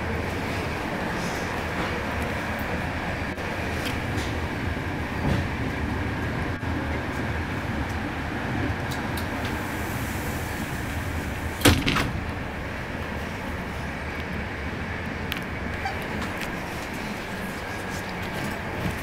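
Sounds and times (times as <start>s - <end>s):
train coach rumble with whine: 0.0s - 19.0s.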